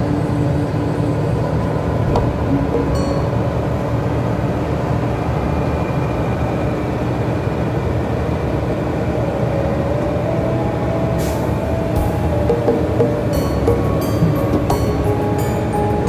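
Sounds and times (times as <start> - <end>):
road and engine rumble in cabin: 0.0 - 16.0.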